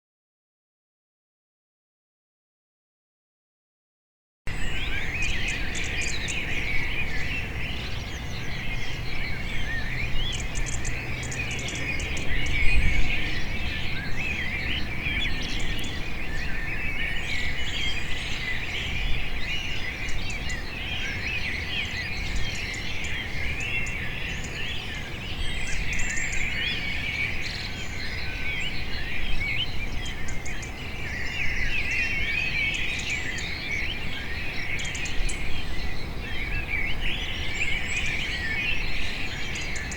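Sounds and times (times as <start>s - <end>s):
small birds chirping: 4.5s - 39.9s.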